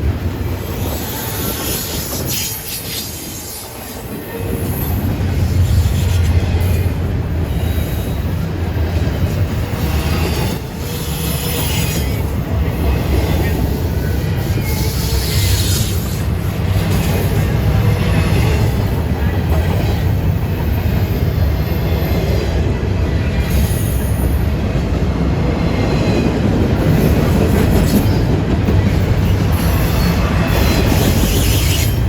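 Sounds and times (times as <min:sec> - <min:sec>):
train cars rolling over rails: 0:00.0 - 0:32.0.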